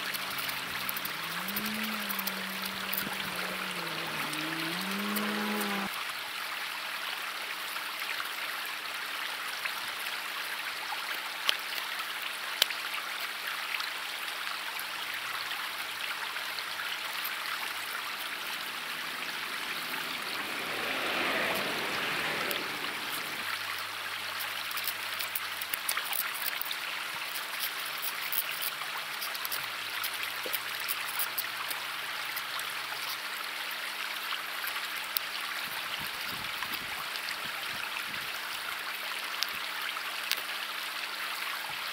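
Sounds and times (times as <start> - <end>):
river water flowing over rocks: 0.0 - 41.9.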